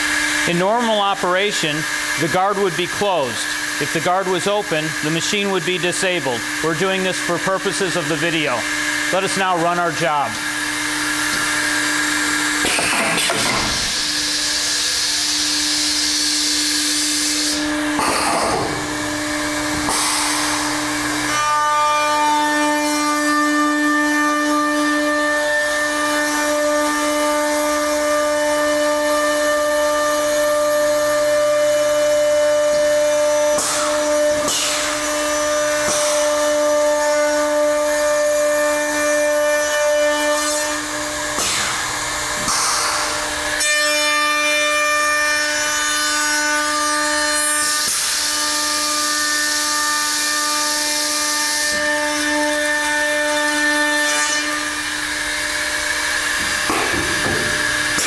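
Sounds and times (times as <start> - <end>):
router bits cutting wood: 0.0 - 58.0
router motors whining: 0.0 - 58.0.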